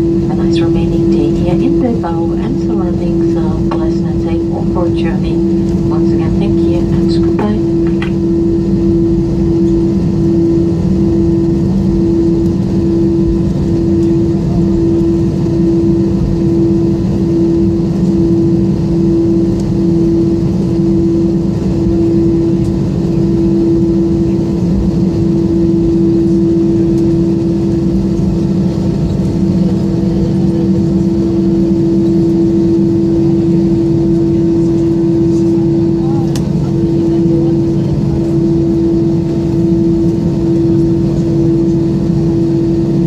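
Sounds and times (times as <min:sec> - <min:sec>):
jet engines idling in cabin: 0:00.0 - 0:43.0.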